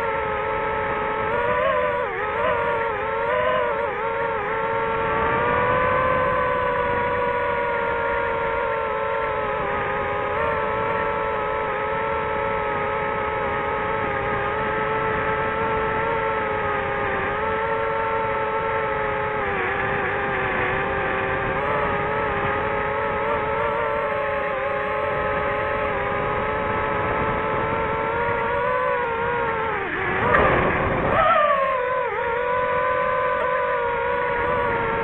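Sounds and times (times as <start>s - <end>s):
drone motors and propellers whining: 0.0s - 35.0s.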